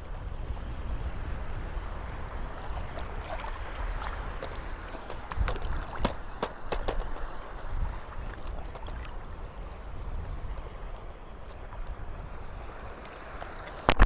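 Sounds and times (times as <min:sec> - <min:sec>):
waves breaking: 0:00.0 - 0:14.0.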